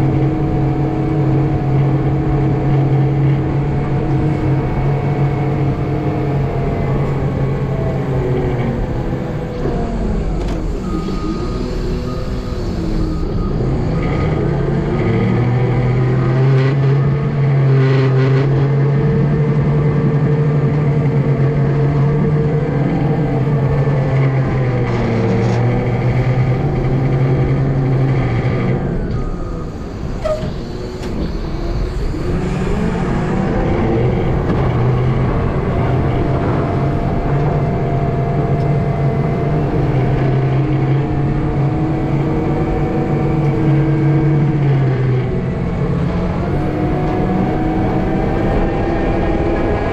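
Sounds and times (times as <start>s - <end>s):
large vehicle engine revving: 0.0s - 49.9s.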